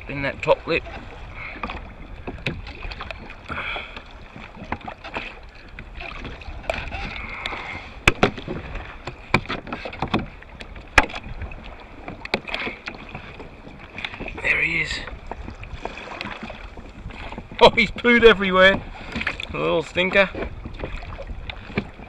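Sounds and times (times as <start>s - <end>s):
wind and water rushing: 0.0s - 22.0s
knocks and taps on kayak: 0.8s - 14.4s, 15.1s - 22.0s.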